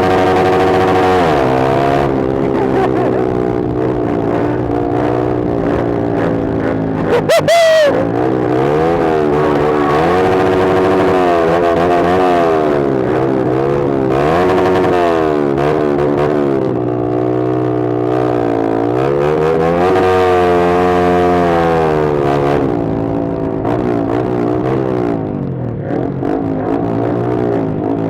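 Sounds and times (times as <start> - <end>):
motorcycle exhaust revving: 0.0 - 28.0.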